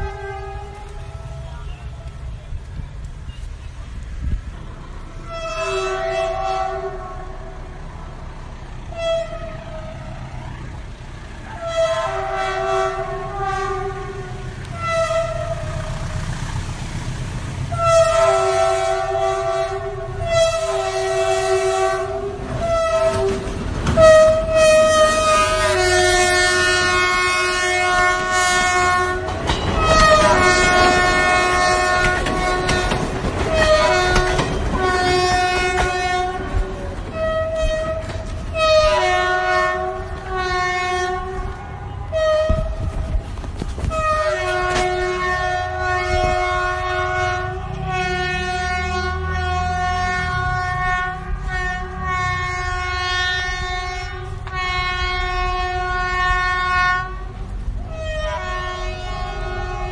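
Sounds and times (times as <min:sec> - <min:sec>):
train horn blasts: 0:00.0 - 0:02.2, 0:05.0 - 0:07.8, 0:08.8 - 0:10.6, 0:11.4 - 0:16.2, 0:17.7 - 0:59.9
moving train rumble and clatter: 0:00.0 - 0:59.9.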